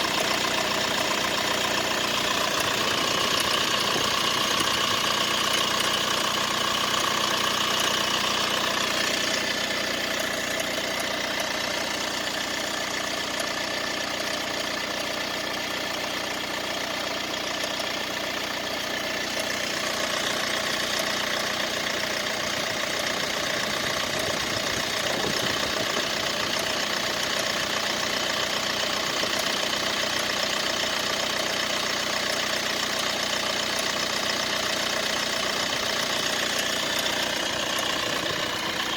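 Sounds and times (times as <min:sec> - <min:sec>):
car engine running with rattle: 0:00.0 - 0:38.9.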